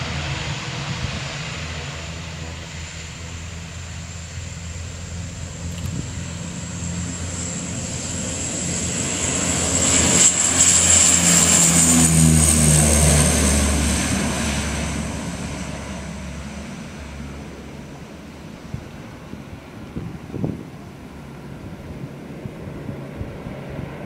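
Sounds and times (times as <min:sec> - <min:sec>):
turboprop aircraft taking off: 0:00.0 - 0:24.0.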